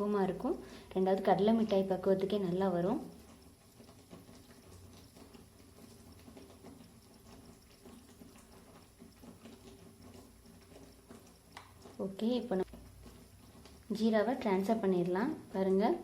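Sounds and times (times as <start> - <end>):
syrup bubbling in a pan: 0.0 - 16.0.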